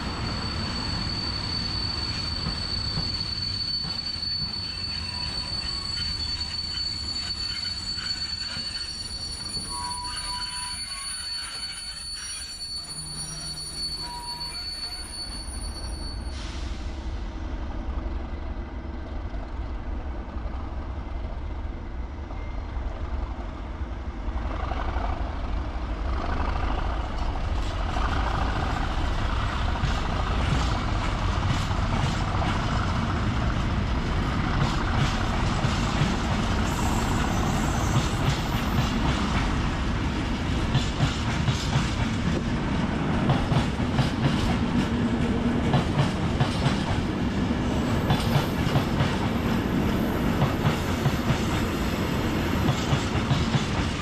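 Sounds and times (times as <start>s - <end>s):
train wagons rumbling past: 0.0s - 54.0s.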